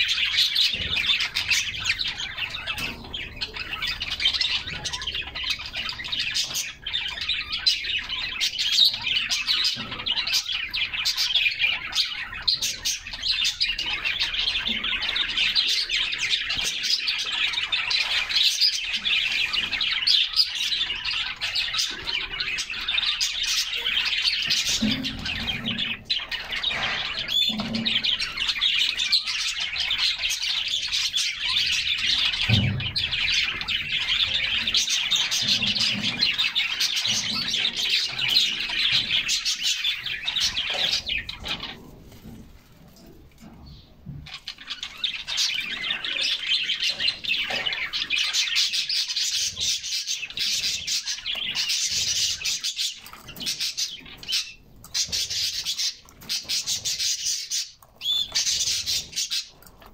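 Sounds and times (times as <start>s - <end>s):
canaries singing: 0.0s - 59.9s.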